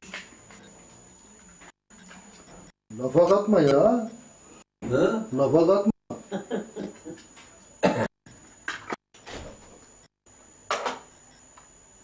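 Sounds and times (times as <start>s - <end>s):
faint high whine: 0.1s - 12.0s.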